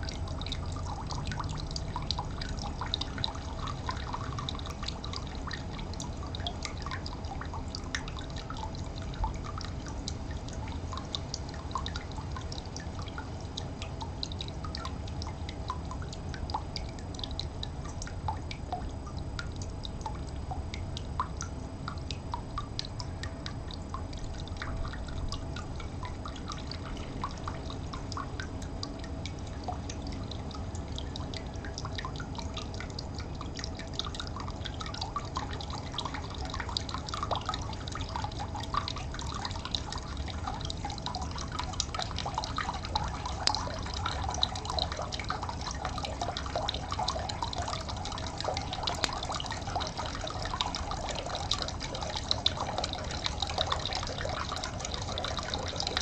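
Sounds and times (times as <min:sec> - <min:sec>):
low steady rumble: 0:00.0 - 0:56.0
water trickling and dripping: 0:00.0 - 0:56.0.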